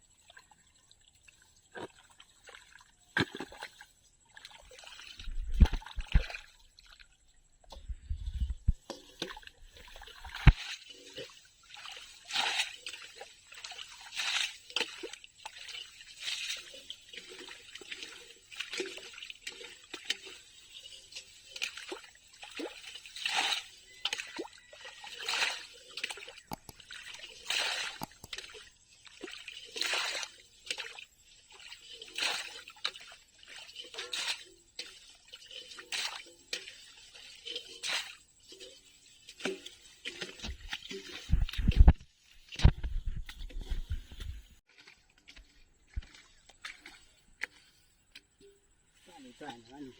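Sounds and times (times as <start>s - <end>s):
water splashing in a drain: 0.1s - 47.8s.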